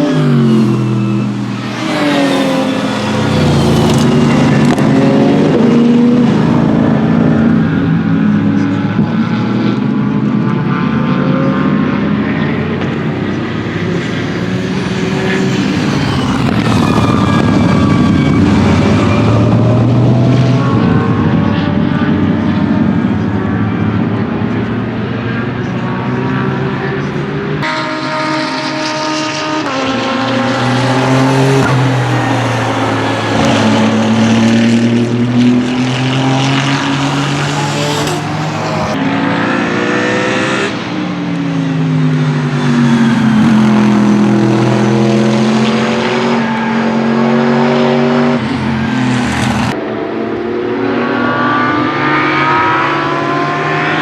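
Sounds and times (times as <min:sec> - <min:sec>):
race cars revving past: 0:00.0 - 0:54.0.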